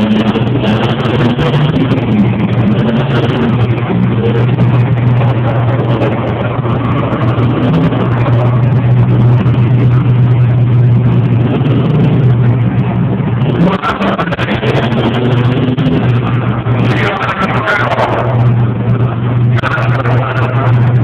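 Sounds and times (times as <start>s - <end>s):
race truck engines running hard: 0.0s - 21.0s.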